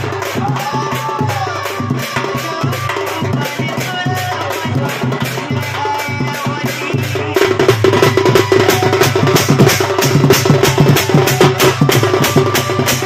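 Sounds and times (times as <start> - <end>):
barrel drum fast beat: 0.0 - 13.0.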